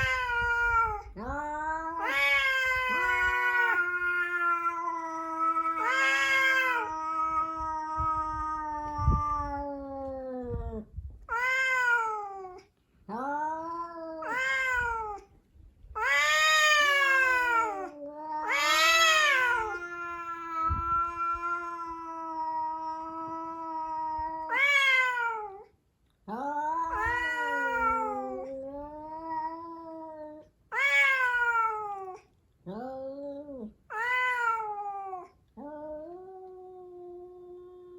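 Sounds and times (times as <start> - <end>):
cats yowling: 0.0 - 15.3, 16.0 - 25.7, 26.3 - 37.9.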